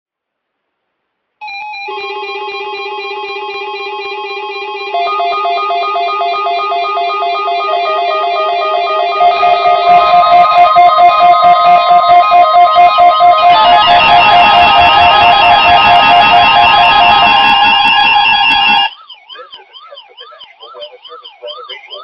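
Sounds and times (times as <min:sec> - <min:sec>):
two-pitch warbling alert beeps: 0:01.9 - 0:22.0.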